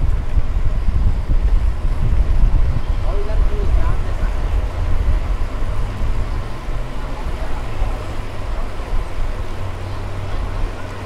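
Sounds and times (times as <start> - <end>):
tyres rolling on pavement: 0.0 - 11.0
wind rumbling on microphone: 0.0 - 11.0.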